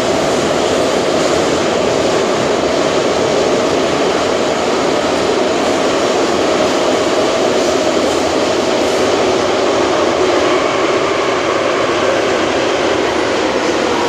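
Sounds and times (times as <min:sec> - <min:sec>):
metro train rumbling in tunnel: 0:00.0 - 0:14.0.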